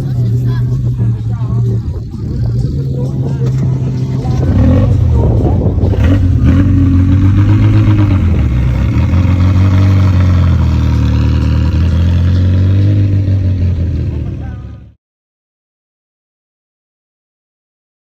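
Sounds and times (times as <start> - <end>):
car engine running loudly: 0.0 - 15.0.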